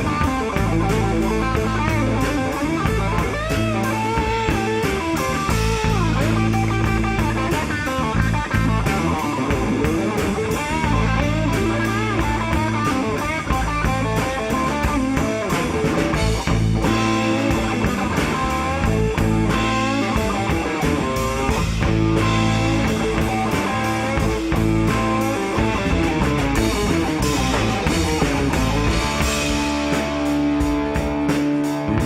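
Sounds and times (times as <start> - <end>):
bass guitar: 0.0 - 32.0
electric guitar lead with bent notes: 0.0 - 32.0
steady drum beat: 0.0 - 32.0.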